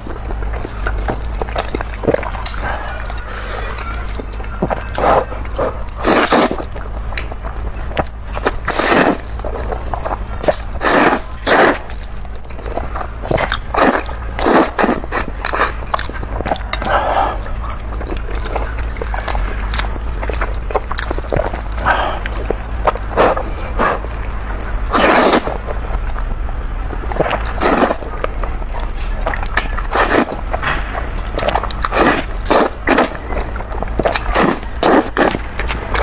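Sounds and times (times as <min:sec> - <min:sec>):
low hum: 0:00.0 - 0:36.0
noodles slurping and chewing: 0:00.0 - 0:36.0.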